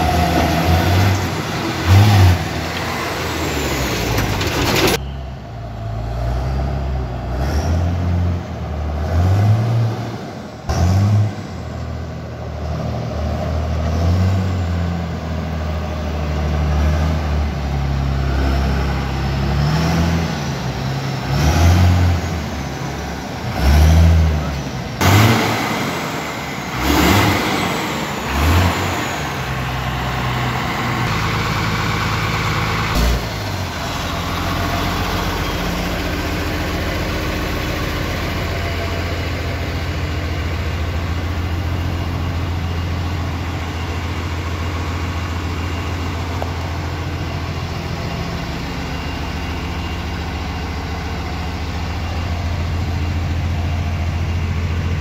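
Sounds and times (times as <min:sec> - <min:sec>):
diesel truck engine idling: 0:00.0 - 0:07.4, 0:11.4 - 0:55.0.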